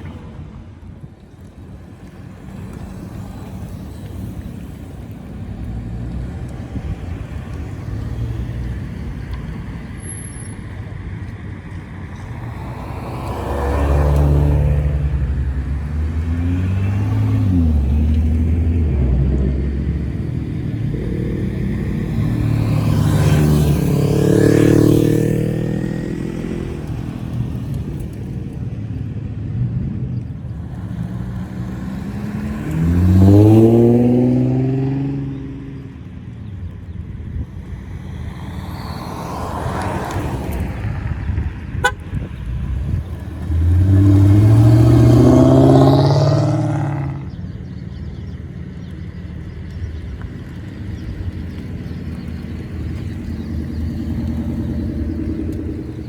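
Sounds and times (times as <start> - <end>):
cars driving past rumbling: 0.0 - 56.0.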